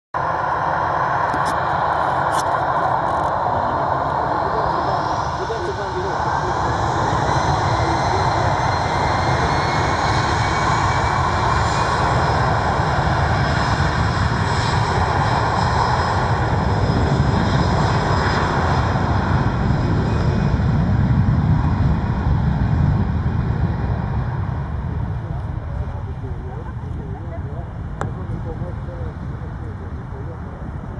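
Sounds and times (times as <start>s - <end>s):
jet engine roar: 0.2s - 30.9s
low rumble of aircraft rolling: 0.2s - 30.9s.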